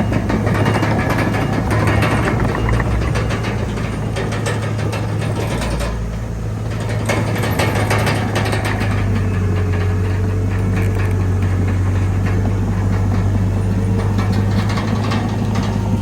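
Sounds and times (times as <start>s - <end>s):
bulldozer diesel engine running: 0.0s - 16.0s
sharp clicks and rattles: 0.0s - 16.0s.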